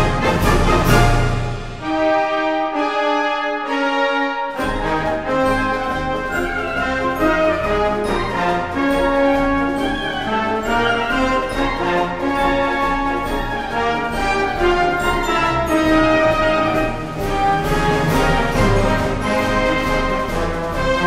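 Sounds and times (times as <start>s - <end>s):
wind band playing a march: 0.0s - 21.0s.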